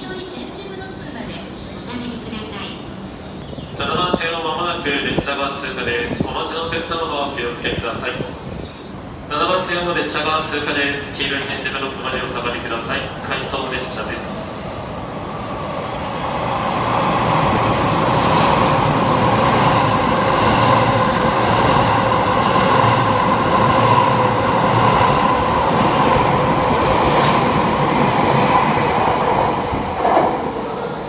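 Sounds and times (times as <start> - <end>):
electric train rumbling past: 0.0 - 31.0.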